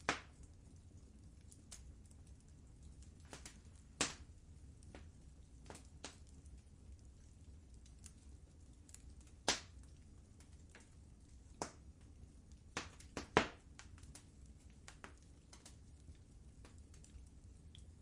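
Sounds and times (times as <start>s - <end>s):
fire pops and snaps: 0.0s - 18.0s
fire rumbling: 0.0s - 18.0s.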